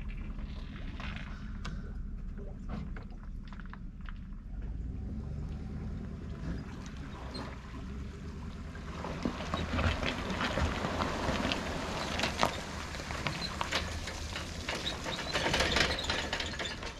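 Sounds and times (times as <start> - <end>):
engine idling: 0.0 - 16.9
water splashing and crackling: 0.0 - 16.9.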